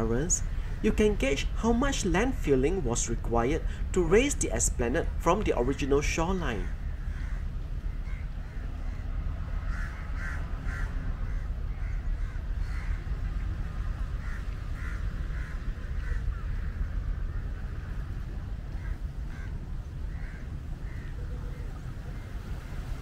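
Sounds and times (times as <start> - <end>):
birds calling: 0.0 - 23.0
low rumble: 0.0 - 23.0.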